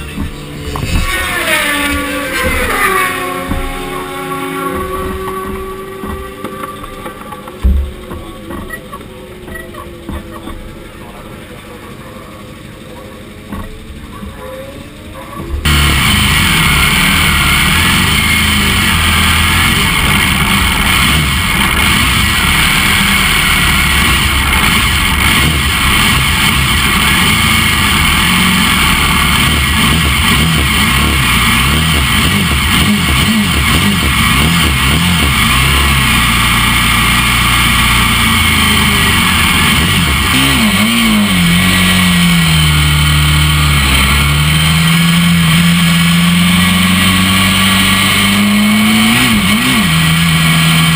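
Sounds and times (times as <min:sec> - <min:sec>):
motorcycle accelerating away: 0:00.0 - 0:08.6, 0:10.0 - 0:50.9
motorcycle engine idling and revving: 0:00.0 - 0:50.9
other motorcycle engines: 0:00.0 - 0:50.9.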